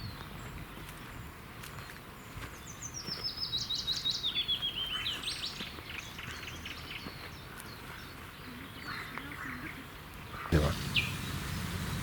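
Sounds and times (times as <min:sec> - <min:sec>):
songbird singing: 0:00.0 - 0:12.0
faint bird chirps: 0:01.8 - 0:11.5.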